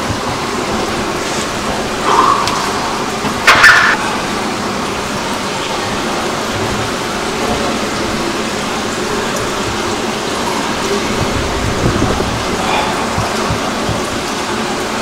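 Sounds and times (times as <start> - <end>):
indoor pool hall rushing noise: 0.0 - 15.0.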